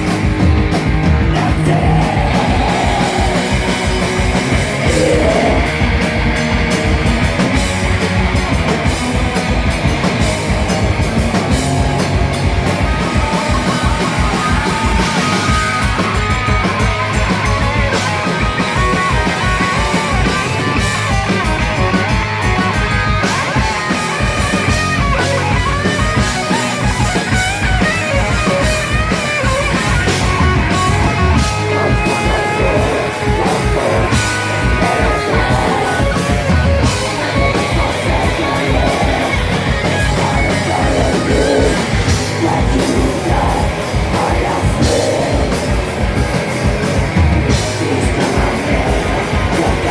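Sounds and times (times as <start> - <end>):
drum kit beat: 0.0 - 49.9
electric guitars: 0.0 - 49.9.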